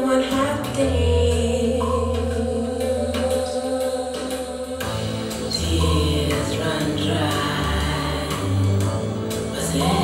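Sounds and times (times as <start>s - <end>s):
music through speakers: 0.0s - 10.0s.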